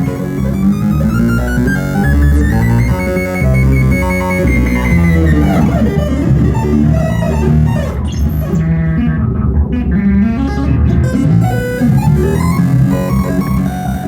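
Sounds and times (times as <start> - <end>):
electronic music with synthesizer: 0.0 - 14.0.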